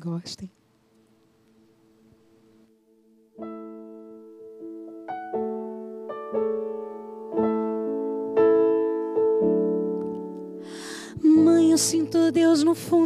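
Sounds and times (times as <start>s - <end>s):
slow piano chords: 1.4s - 13.0s.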